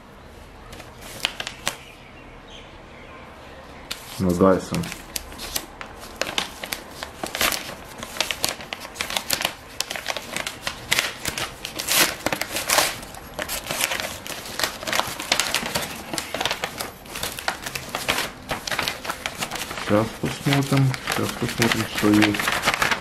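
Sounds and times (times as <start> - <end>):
paper envelope tearing and crinkling: 1.0 - 1.8, 3.9 - 23.0.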